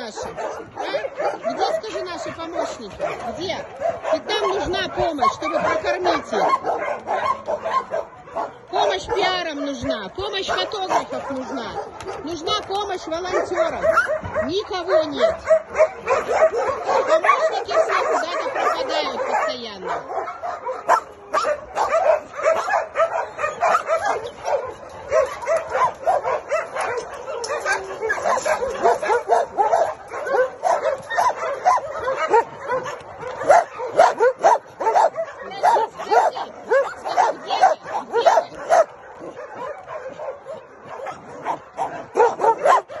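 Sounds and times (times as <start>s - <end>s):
many dogs barking: 0.0s - 43.0s.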